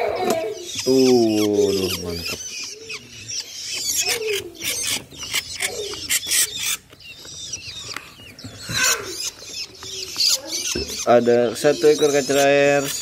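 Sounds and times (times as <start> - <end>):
chicks begging chirps: 0.0 - 13.0.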